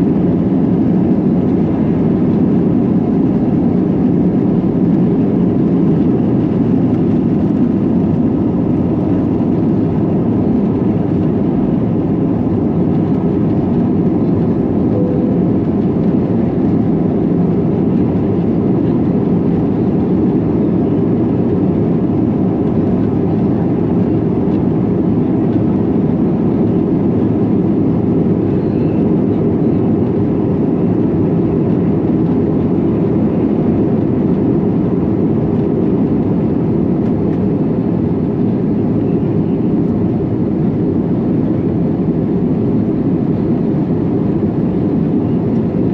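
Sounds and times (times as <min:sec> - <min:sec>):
jet engine drone in cabin: 0:00.0 - 0:45.9.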